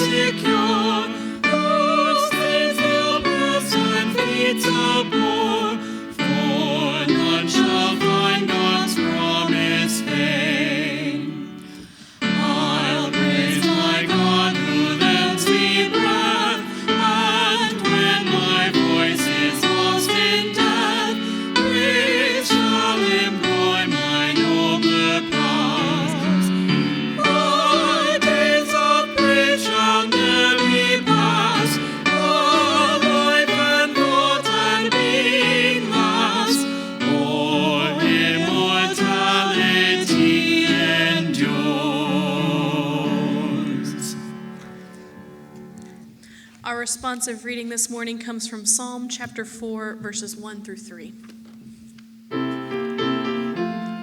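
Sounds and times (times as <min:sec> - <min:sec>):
voices singing with vibrato: 0:00.0 - 0:45.0
instrumental accompaniment: 0:00.0 - 0:46.3, 0:51.2 - 0:54.0.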